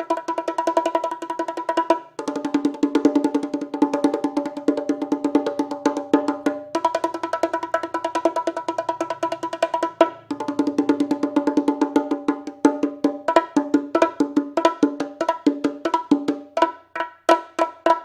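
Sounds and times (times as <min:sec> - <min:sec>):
bongos played by hand: 0:00.0 - 0:18.0.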